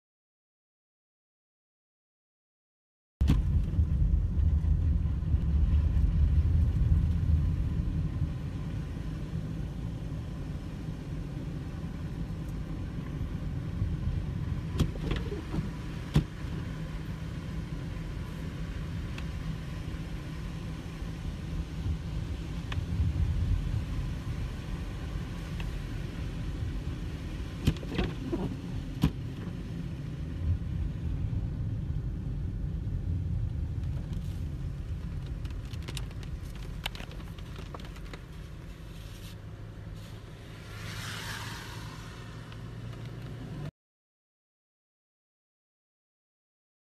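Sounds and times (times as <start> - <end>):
car engine and tyres rumbling: 3.2 - 43.7.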